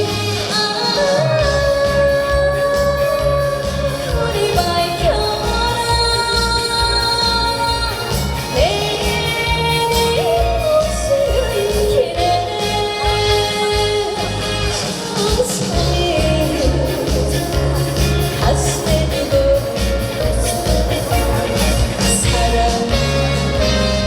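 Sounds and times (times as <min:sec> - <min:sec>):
person singing: 0:00.0 - 0:24.0
trot song over loudspeakers: 0:00.0 - 0:24.0.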